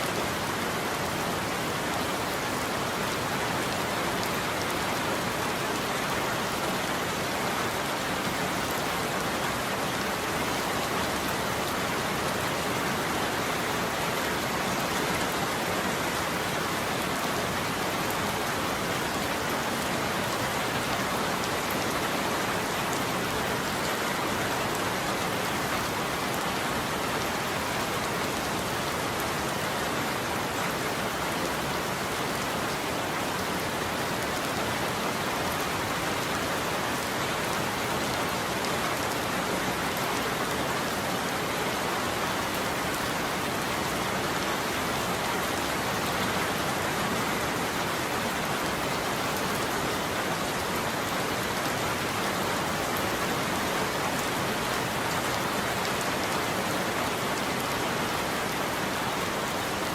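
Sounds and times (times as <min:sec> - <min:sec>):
rain pattering on surfaces: 0:00.1 - 0:59.9.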